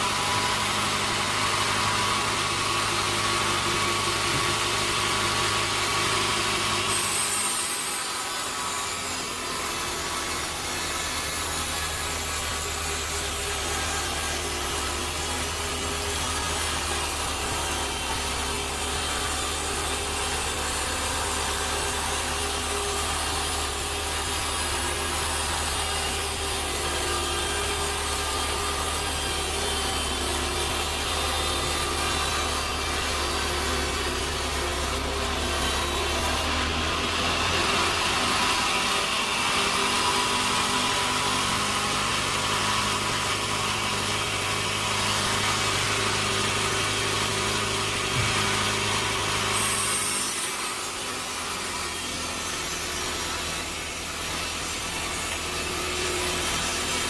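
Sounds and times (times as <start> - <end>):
sawmill saw cutting log: 0.0 - 57.0.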